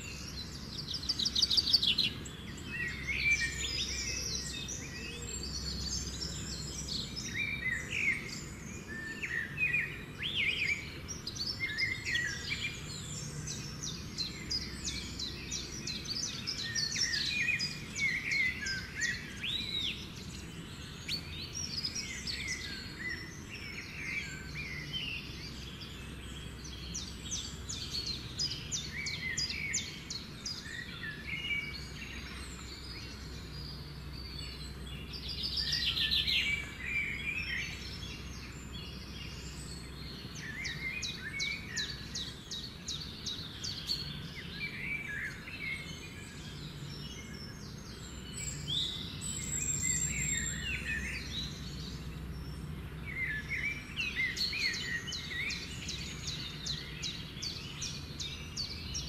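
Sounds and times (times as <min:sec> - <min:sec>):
low background noise: 0:00.0 - 0:59.0
small birds chirping: 0:00.0 - 0:59.0.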